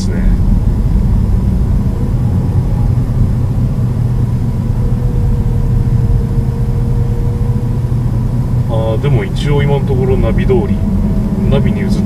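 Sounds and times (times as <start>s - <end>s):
car engine and road rumble: 0.0s - 12.0s
faint steady whine: 0.0s - 12.0s.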